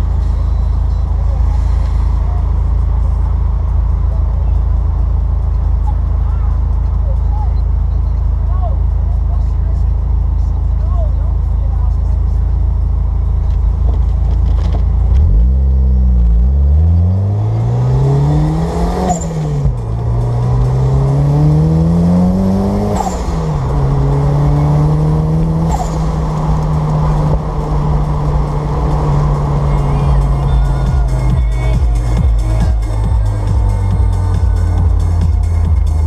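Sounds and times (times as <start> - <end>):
car engine accelerating: 0.0 - 36.0
gear change chirp: 0.0 - 36.0.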